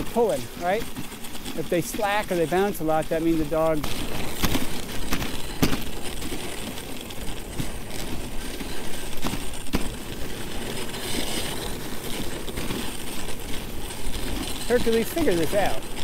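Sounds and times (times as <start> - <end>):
sled knocks and rattles: 0.0 - 16.0
sled runners scraping on snow: 0.0 - 16.0.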